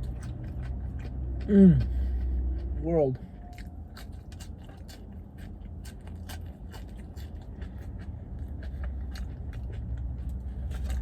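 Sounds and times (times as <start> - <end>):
chewing crunchy food: 0.0 - 11.0
low steady hum: 0.0 - 11.0.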